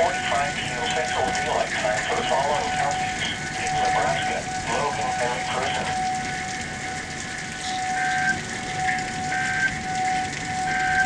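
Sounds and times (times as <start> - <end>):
heavy rain pouring: 0.0 - 11.0
steady high tone: 0.0 - 11.0.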